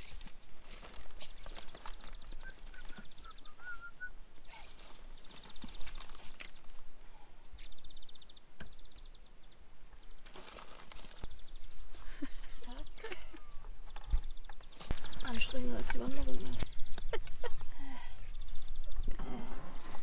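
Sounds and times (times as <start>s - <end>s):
birds trilling and chirping: 0.0s - 20.0s.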